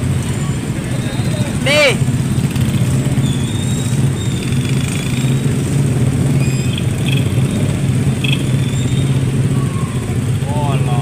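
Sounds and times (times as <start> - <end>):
vehicle engines in slow traffic: 0.0 - 11.0.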